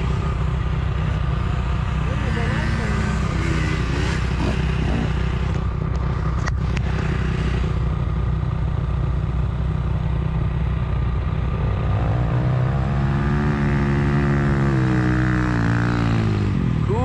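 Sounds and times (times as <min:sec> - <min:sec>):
dirt bike engine idling: 0:00.0 - 0:17.0.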